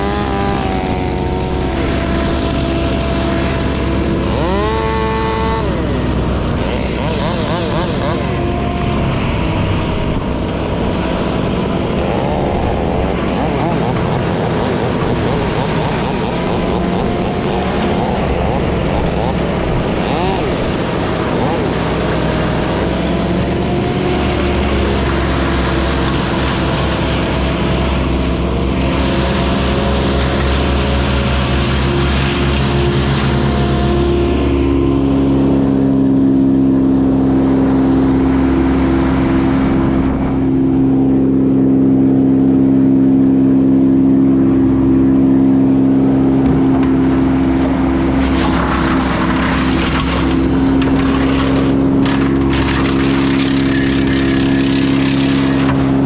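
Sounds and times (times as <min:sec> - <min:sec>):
large engine running under load: 0:00.0 - 0:56.0.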